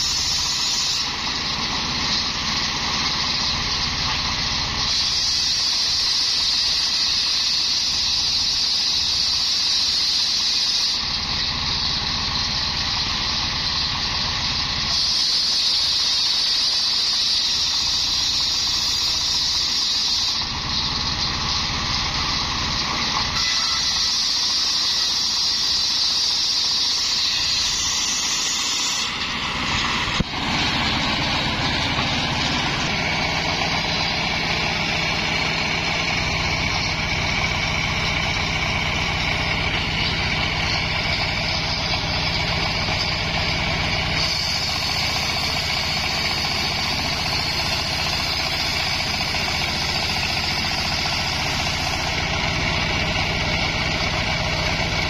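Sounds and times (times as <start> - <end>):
circular saw blade whining: 0.0 - 55.0
engine running: 0.0 - 55.0.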